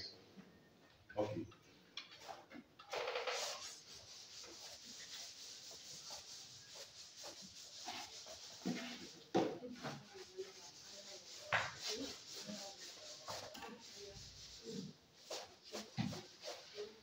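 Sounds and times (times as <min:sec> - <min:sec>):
chalk wiped off blackboard: 0:02.1 - 0:17.0.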